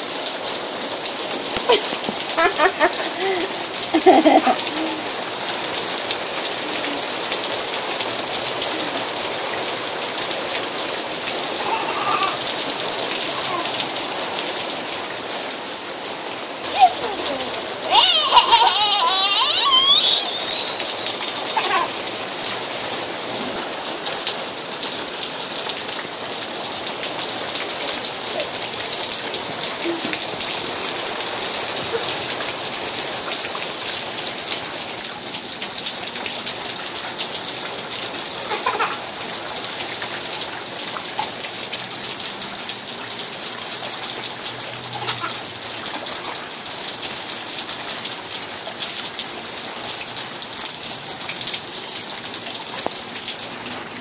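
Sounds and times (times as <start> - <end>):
rain on concrete and puddles: 0.0 - 54.0.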